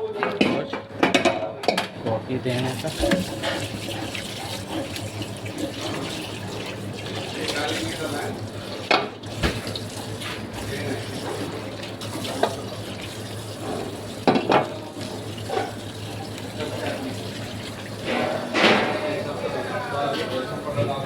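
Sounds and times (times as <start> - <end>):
water running at a sink: 2.2 - 21.0.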